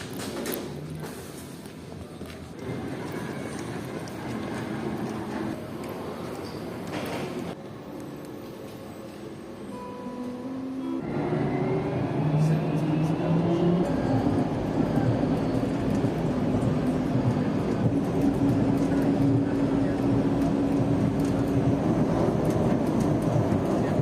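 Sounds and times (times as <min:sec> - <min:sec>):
train motor whine and hum: 0:00.6 - 0:24.0.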